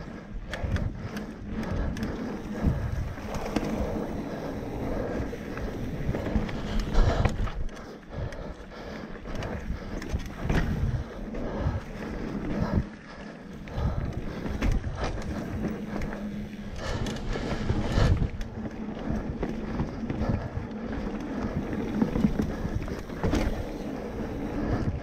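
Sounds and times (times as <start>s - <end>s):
bike knocking and rattling: 0.0s - 8.0s, 9.2s - 25.0s
wind buffeting microphone: 0.0s - 8.3s, 9.3s - 25.0s.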